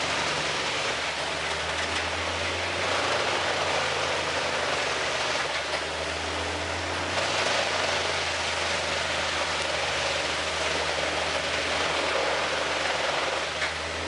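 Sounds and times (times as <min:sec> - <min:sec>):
wood being shredded: 0:00.0 - 0:14.0
wood chipper engine hum: 0:00.0 - 0:14.0.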